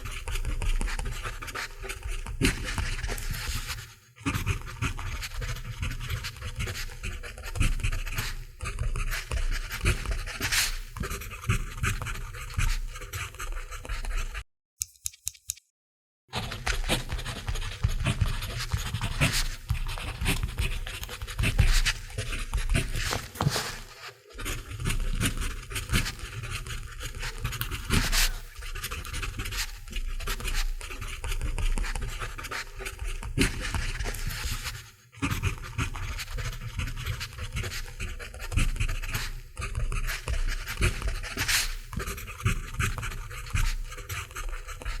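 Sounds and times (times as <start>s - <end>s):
pencil scratching on paper: 0.0s - 14.4s, 16.4s - 45.0s.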